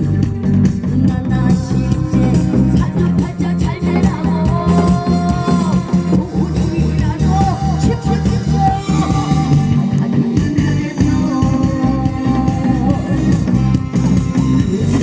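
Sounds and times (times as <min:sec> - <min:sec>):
backing track bass and beat: 0:00.0 - 0:15.0
woman singing folk song: 0:00.0 - 0:15.0
hourglass drum strokes: 0:00.5 - 0:15.0.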